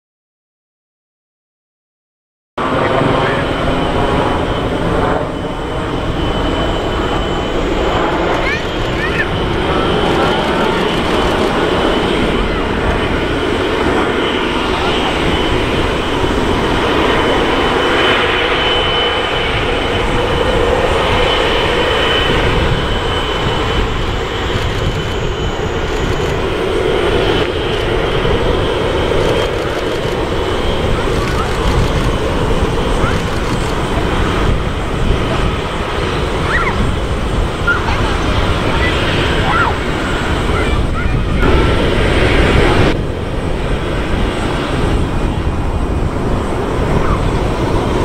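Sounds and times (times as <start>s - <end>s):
high engine whine: 2.6s - 48.0s
jet engines running at low power: 2.6s - 48.0s.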